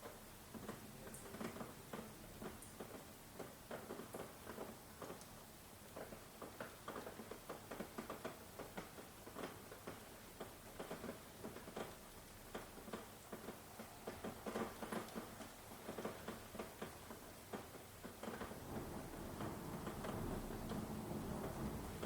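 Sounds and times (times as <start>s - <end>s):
rain dripping and tapping: 0.0s - 22.0s.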